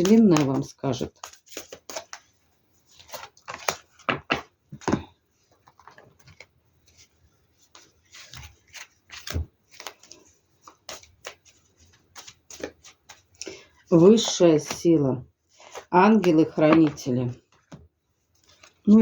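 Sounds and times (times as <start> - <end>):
cards being shuffled: 0.0 - 14.9, 15.6 - 17.8, 18.4 - 18.9.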